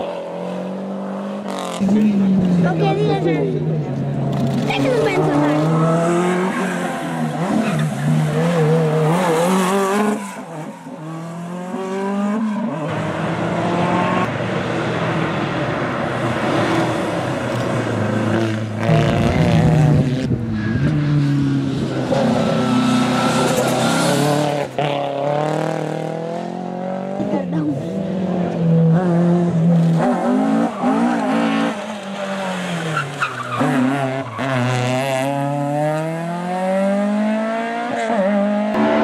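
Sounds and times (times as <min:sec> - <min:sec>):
rally car engines revving: 0:00.0 - 0:39.0.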